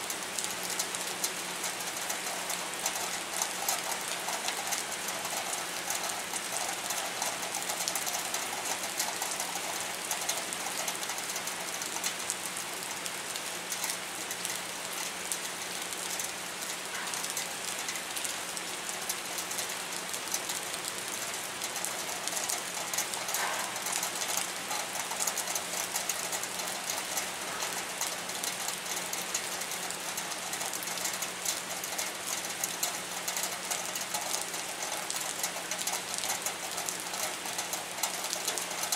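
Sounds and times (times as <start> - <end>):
heavy rain on concrete and water: 0.0 - 38.9.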